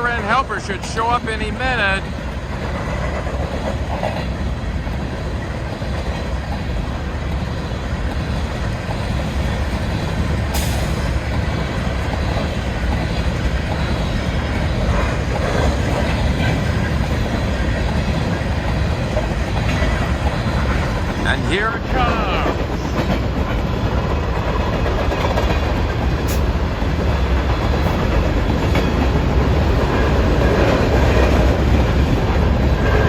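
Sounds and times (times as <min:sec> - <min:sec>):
clickety-clack at rail joints: 0:00.0 - 0:33.0
freight train wheels rumbling: 0:00.0 - 0:33.0.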